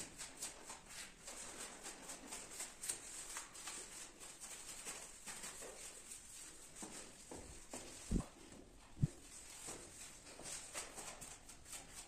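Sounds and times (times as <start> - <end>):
scratchy rubbing on floor tiles: 0.0 - 8.4, 9.0 - 12.0.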